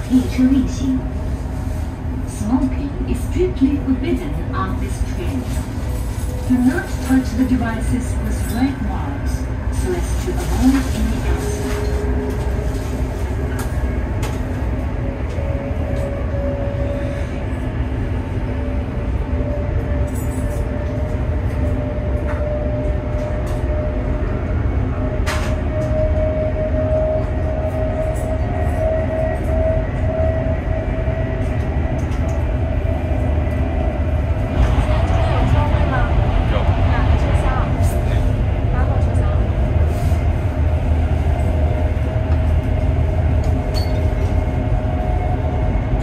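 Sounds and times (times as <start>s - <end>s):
train carriage rumble with whine: 0.0s - 46.0s.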